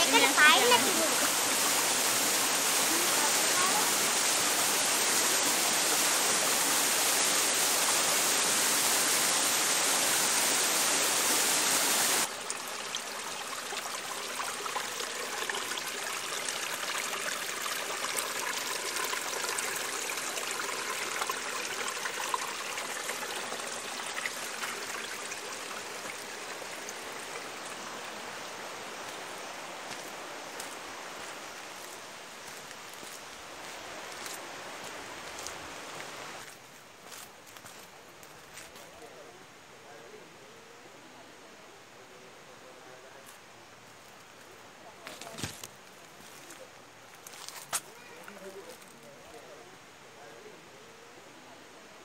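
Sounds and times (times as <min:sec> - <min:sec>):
stream running over rocks: 0:00.0 - 0:40.4, 0:42.0 - 0:50.7.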